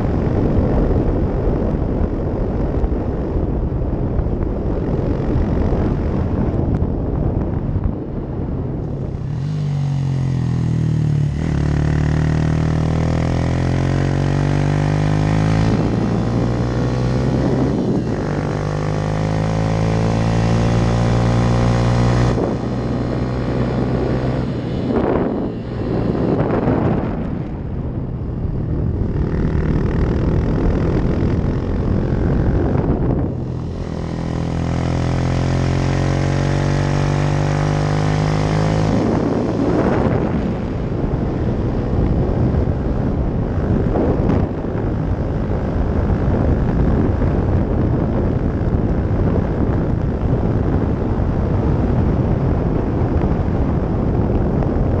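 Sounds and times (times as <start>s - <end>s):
wind noise: 0.0s - 55.0s
motorcycle engine under throttle: 8.6s - 55.0s.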